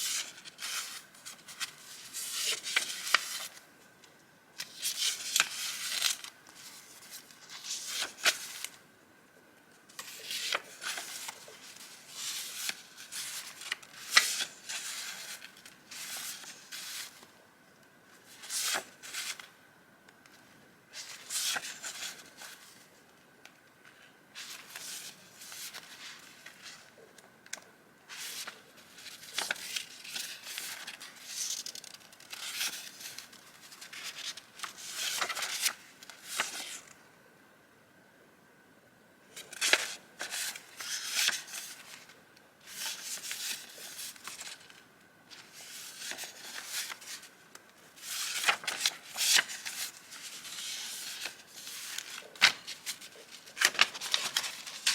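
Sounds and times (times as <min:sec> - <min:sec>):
paper rustling and crinkling: 0:00.0 - 0:03.6, 0:04.6 - 0:08.8, 0:09.9 - 0:17.3, 0:18.2 - 0:19.5, 0:20.9 - 0:22.9, 0:23.8 - 0:37.0, 0:39.4 - 0:54.9.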